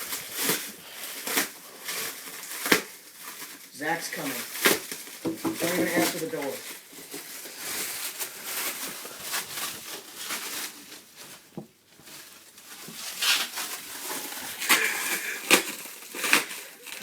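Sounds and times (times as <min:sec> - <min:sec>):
packaging paper rustling: 0:00.0 - 0:17.0.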